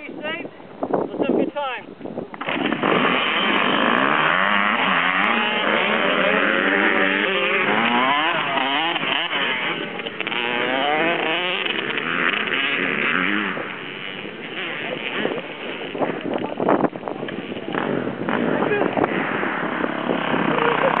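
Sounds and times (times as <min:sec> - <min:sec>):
motocross bikes revving: 0:02.3 - 0:21.0.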